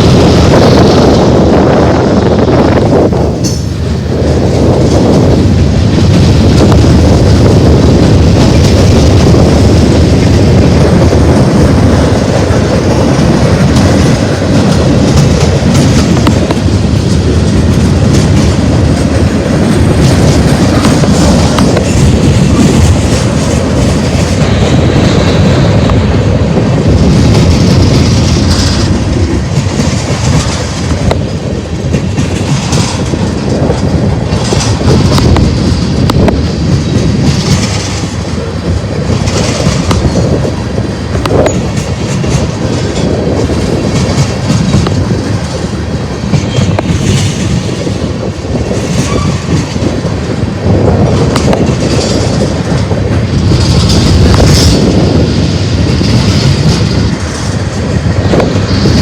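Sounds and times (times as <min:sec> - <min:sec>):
freight train rumbling: 0:00.0 - 0:59.0
wheels clacking over rail joints: 0:02.4 - 0:59.0.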